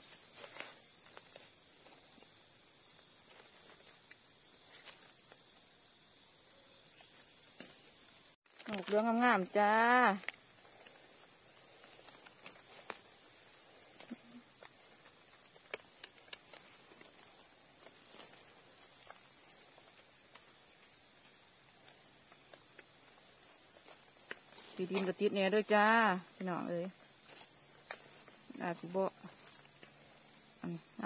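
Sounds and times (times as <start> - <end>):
rustles of leaf litter: 0.0 - 5.9, 8.4 - 30.8
insects chirring: 0.0 - 31.0.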